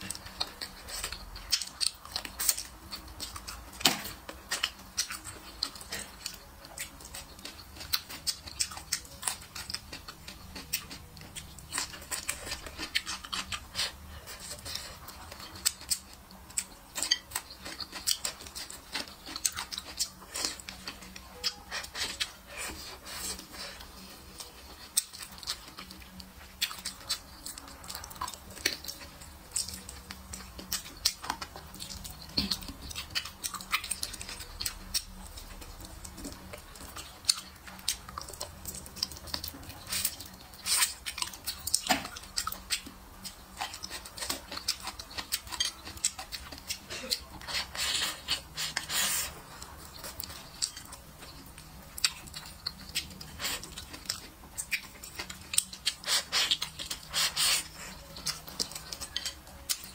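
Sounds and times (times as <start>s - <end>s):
person chewing: 0.0s - 59.9s.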